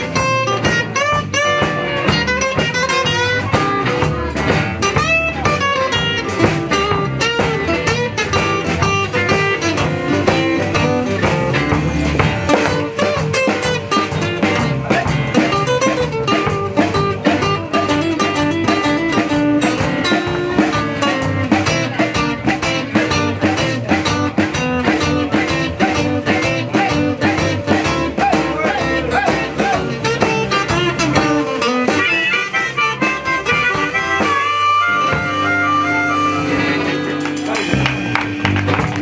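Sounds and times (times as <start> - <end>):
acoustic guitars: 0.0 - 39.0
drum kit: 0.0 - 39.0
electric guitar: 0.0 - 39.0.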